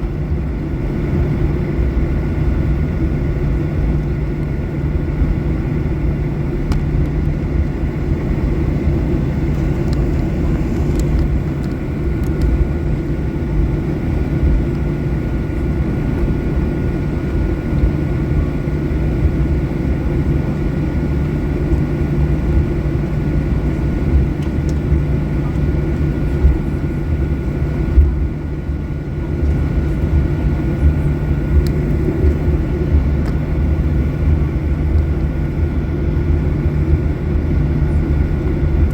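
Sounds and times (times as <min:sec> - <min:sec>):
faint constant whine: 0:00.0 - 0:38.9
jet cabin rumble: 0:00.0 - 0:38.9.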